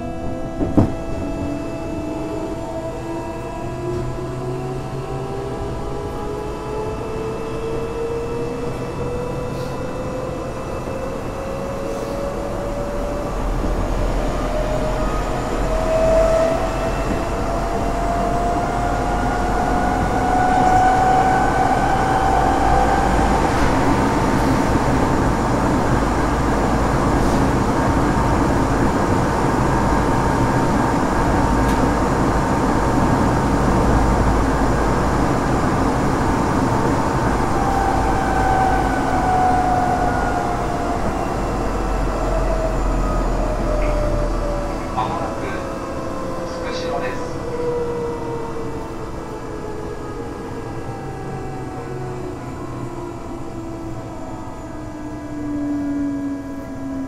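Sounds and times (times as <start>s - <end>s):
train motor whine: 0.0s - 57.0s
train wheel and track rumble: 0.0s - 57.0s.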